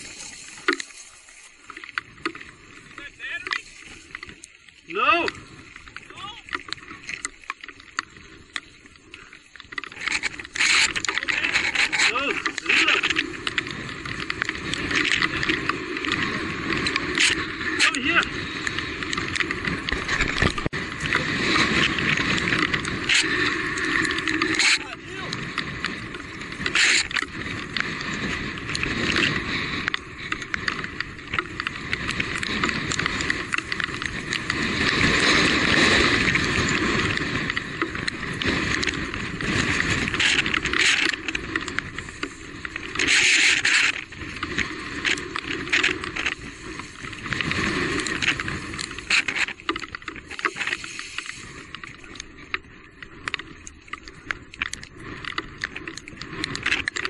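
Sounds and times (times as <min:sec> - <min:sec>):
bike tyres rolling on trail: 0:00.0 - 0:57.0.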